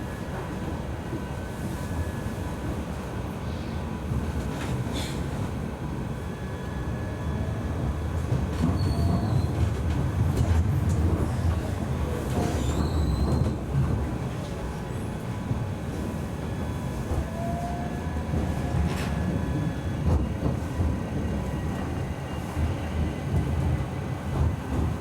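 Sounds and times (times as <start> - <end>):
tram wheels rumbling on rail: 0.0 - 25.0.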